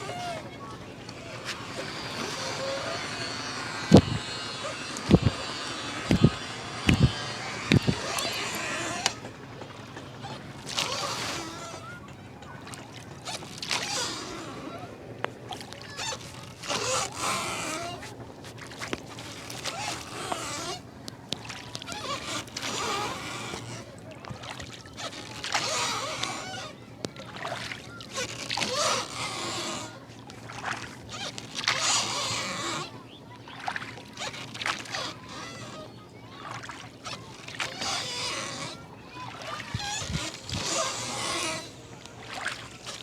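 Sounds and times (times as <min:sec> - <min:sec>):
motorboat engine drone: 0:00.0 - 0:43.0.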